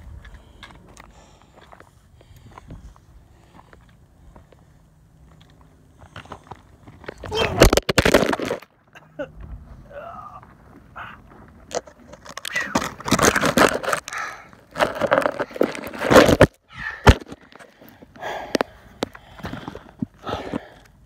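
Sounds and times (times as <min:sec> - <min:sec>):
scraping footsteps on rocky path: 0:00.0 - 0:08.6, 0:10.4 - 0:21.0.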